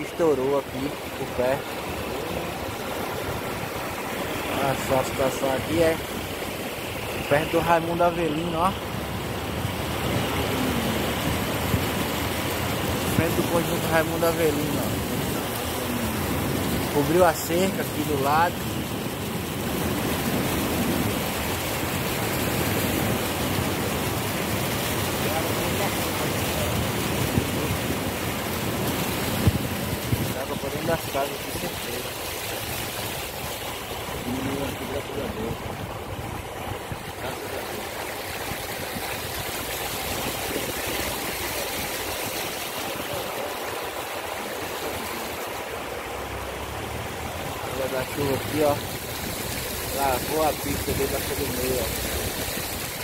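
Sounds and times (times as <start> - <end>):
car splashing through floodwater: 0.0 - 53.0.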